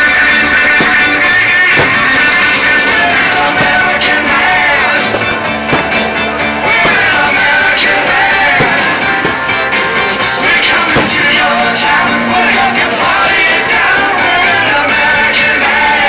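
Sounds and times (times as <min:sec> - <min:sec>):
loud rock music with singing: 0:00.0 - 0:16.0.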